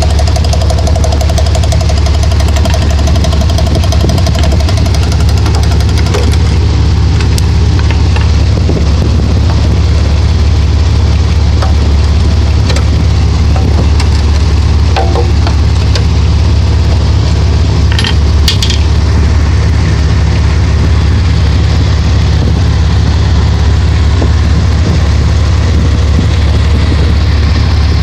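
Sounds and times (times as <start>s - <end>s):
engine running with rapid knock: 0.0s - 28.0s.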